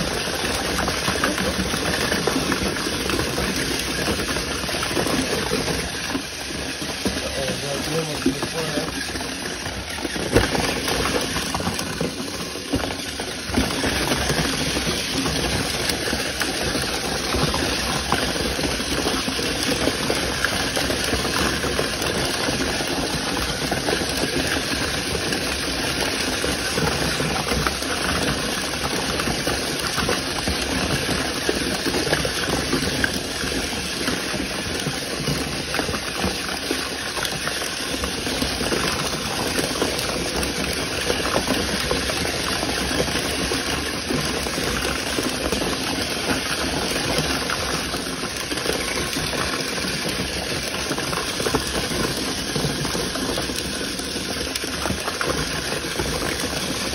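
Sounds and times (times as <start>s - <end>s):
toy cars clattering in a box: 0.0s - 56.9s.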